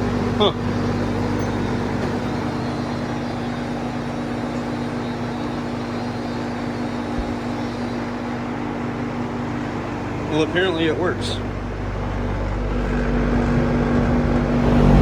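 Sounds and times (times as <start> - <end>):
electric motor hum: 0.0 - 15.0
fan blades rushing air: 0.0 - 15.0.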